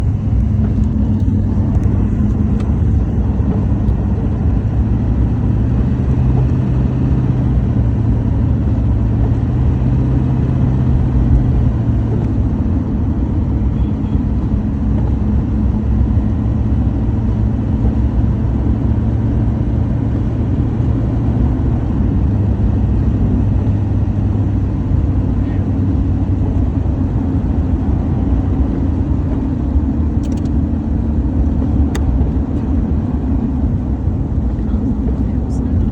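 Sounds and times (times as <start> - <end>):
vehicle engine rumble: 0.0 - 35.9.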